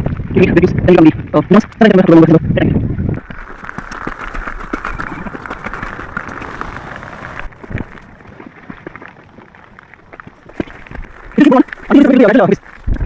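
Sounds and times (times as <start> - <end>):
heavy rain pattering: 0.0 - 13.0
wind buffeting microphone: 0.0 - 13.0.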